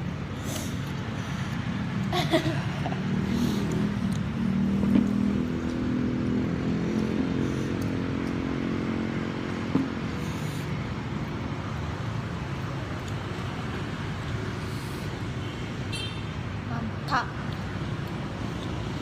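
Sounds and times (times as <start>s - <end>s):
engine hum: 0.0s - 19.0s
road traffic rumble: 0.0s - 19.0s.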